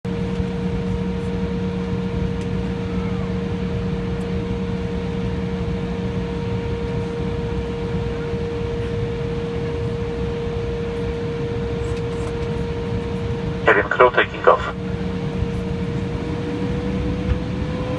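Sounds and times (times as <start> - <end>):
airliner cabin hum: 0.1 - 16.4
lower drone: 0.1 - 17.9.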